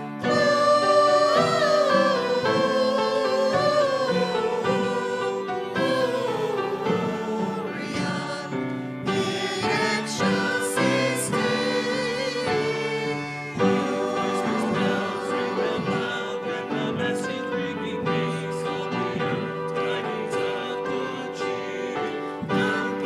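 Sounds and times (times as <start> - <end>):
voices singing long wavering notes: 0.0 - 19.4
instrumental accompaniment: 0.0 - 23.0.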